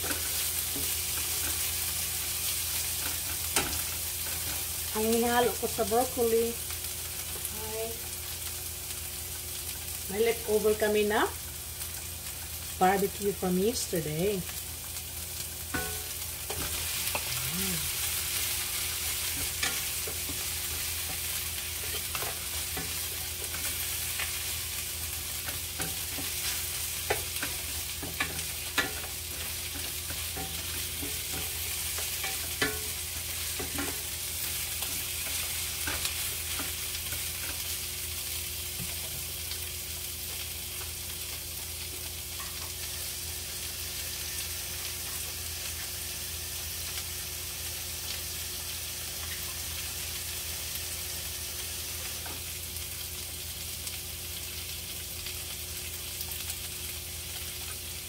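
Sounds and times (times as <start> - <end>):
onions and meat sizzling in a pan: 0.0 - 58.0.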